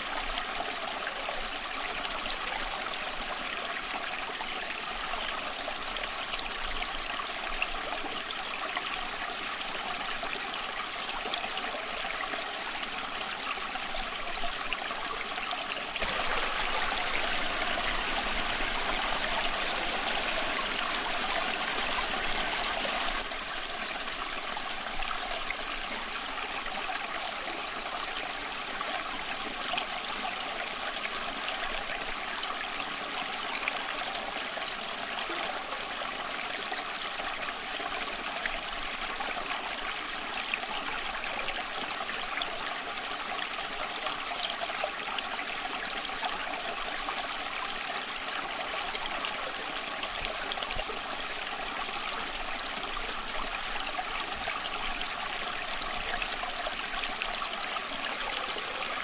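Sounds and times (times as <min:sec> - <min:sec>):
small stream flowing and trickling: 0:00.0 - 0:59.0.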